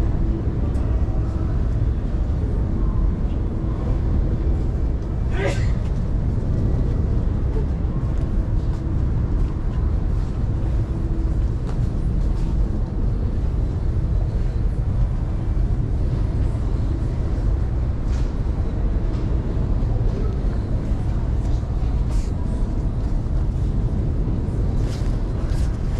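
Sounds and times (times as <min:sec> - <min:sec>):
station concourse rumble: 0:00.0 - 0:25.9.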